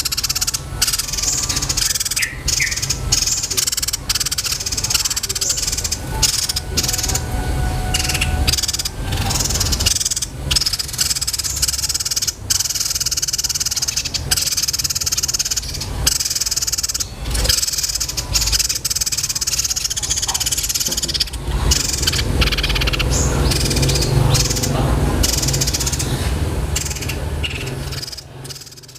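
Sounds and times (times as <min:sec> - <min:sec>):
low hum: 0:00.0 - 0:28.3
songbird trilling: 0:00.0 - 0:28.9.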